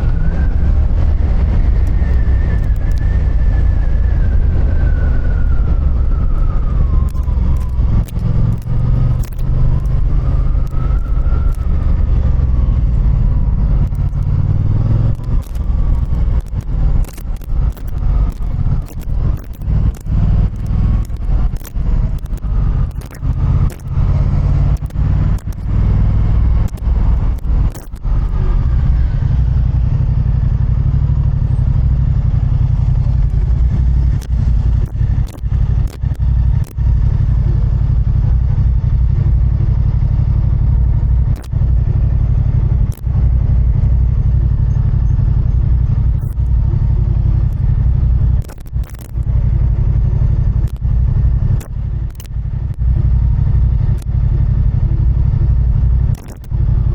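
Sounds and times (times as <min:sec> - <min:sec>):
motorcycle engine rumble: 0:00.0 - 0:56.9.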